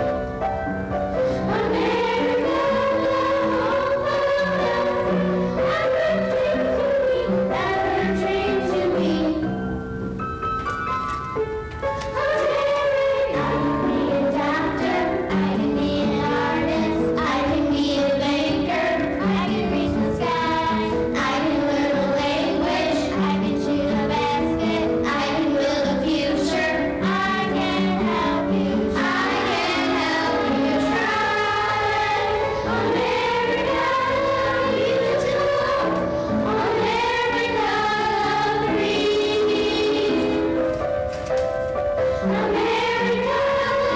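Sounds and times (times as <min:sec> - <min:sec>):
children's choir singing: 0:01.1 - 0:09.6, 0:11.8 - 0:40.8, 0:42.1 - 0:43.9.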